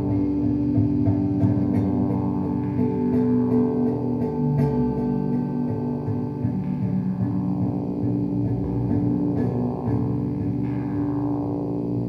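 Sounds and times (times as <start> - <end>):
plucked strings: 0.0 - 12.0
sustained droning tones: 0.0 - 12.0.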